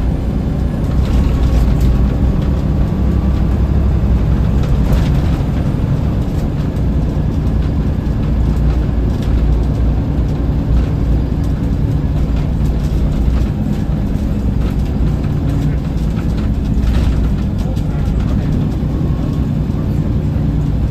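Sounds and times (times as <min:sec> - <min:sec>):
bus diesel engine droning: 0:00.0 - 0:20.9
light rattles: 0:00.5 - 0:20.9.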